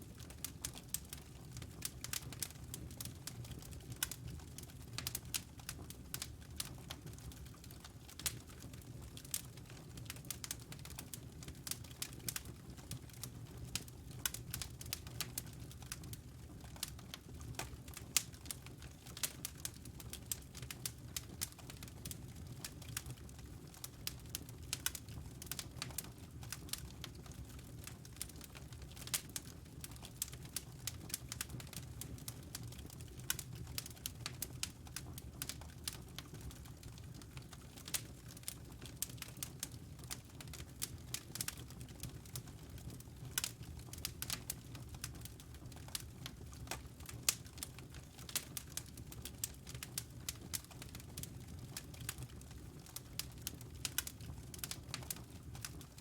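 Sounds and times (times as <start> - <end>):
low rumble of burning: 0.0 - 56.0
wood fire crackling: 0.1 - 56.0.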